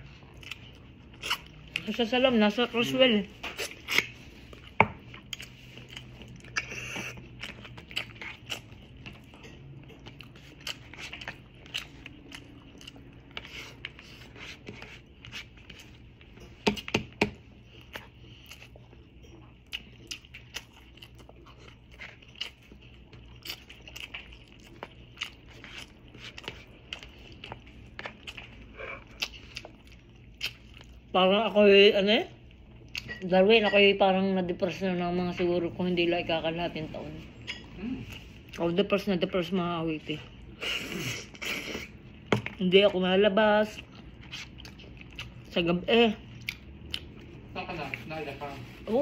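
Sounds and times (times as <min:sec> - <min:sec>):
person chewing and crunching food: 0:00.0 - 0:31.2, 0:40.2 - 0:49.0.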